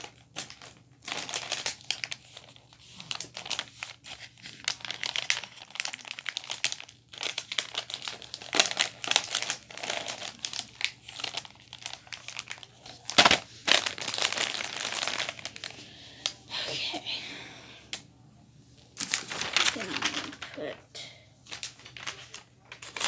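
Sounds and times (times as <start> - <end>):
wrapping paper crinkling: 0.0 - 16.4, 19.0 - 23.0.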